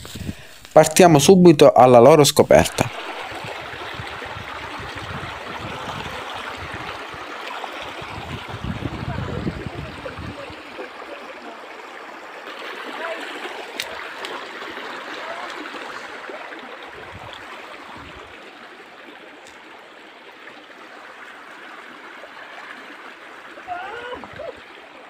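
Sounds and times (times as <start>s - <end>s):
stream water running: 0.0s - 25.0s.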